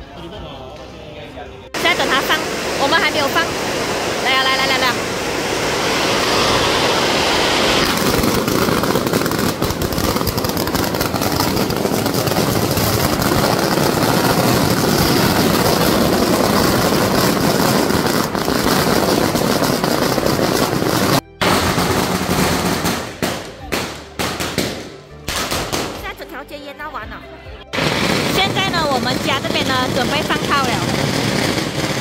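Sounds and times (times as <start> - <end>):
firecrackers crackling: 1.8 - 26.3, 27.7 - 32.0.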